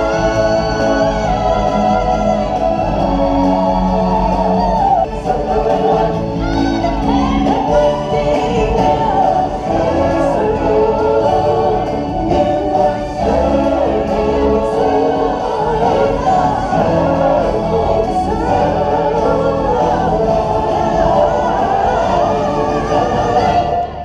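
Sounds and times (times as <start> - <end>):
choir singing with music: 0.0 - 24.0.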